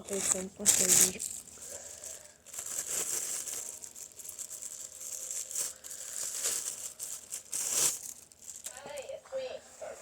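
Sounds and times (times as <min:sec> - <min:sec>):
packaging crinkling and rustling: 0:00.0 - 0:09.1.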